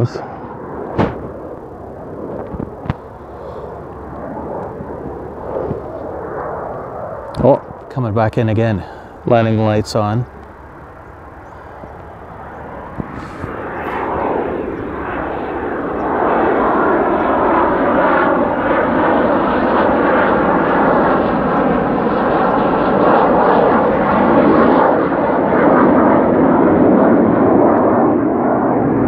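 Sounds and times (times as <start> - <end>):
jet engines passing overhead: 0.0 - 29.0.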